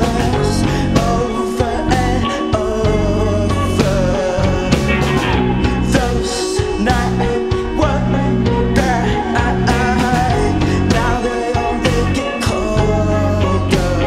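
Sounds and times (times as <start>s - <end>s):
drum and cymbal hits: 0.0s - 13.0s
rock band playing live: 0.0s - 14.0s.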